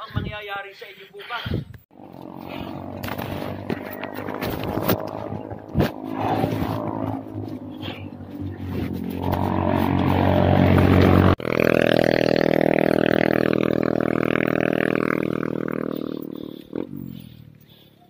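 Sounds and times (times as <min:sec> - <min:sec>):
motor vehicle engine running: 0:01.9 - 0:18.0.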